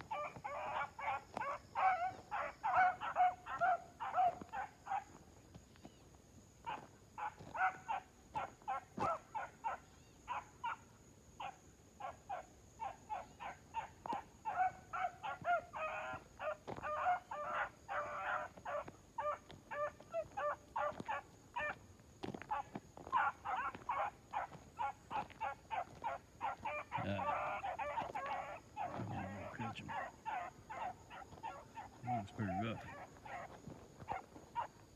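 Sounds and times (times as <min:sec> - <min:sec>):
puppies yipping: 0:00.0 - 0:05.2, 0:06.6 - 0:10.8, 0:11.4 - 0:21.8, 0:22.5 - 0:34.8.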